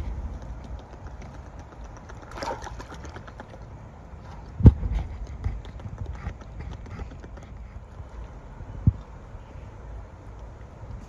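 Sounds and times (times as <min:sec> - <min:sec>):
beavers chewing sticks: 0:00.0 - 0:09.2.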